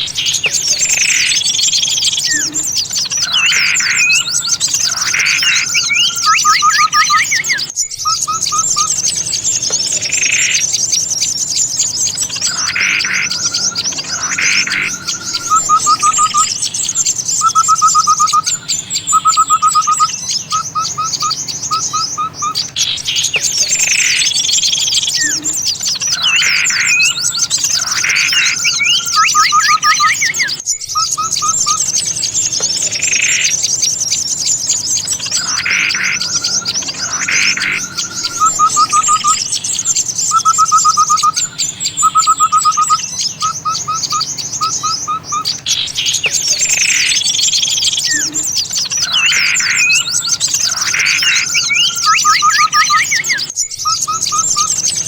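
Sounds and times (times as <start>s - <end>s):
lower whistled bird calls: 0.0s - 55.0s
rapid bird trills: 0.0s - 55.0s
songbirds chirping: 0.0s - 55.0s.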